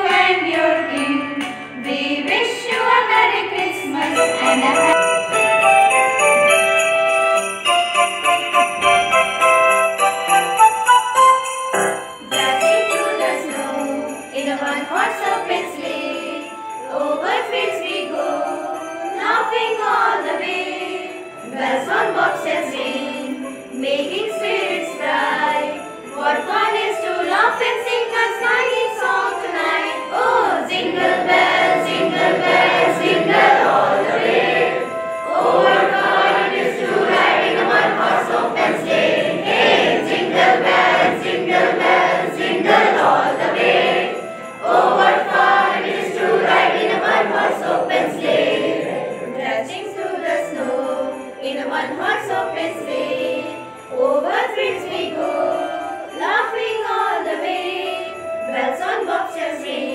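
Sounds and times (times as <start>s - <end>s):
christmas song with singing: 0.0s - 59.9s.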